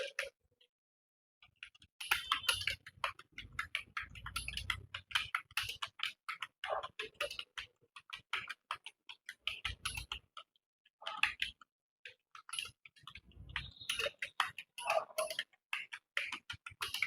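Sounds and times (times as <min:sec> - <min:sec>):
computer keyboard typing: 0:01.6 - 0:11.6, 0:12.3 - 0:17.0.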